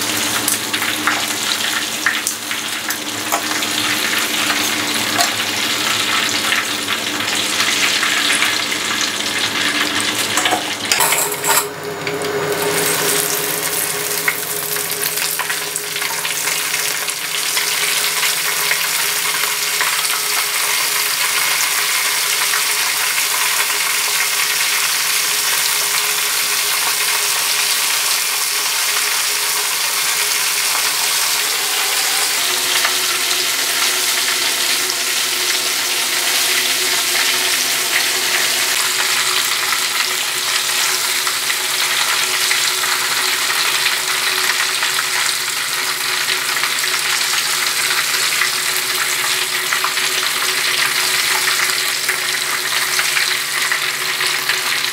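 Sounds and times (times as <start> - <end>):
chicken deep-frying in oil: 0.0 - 54.9.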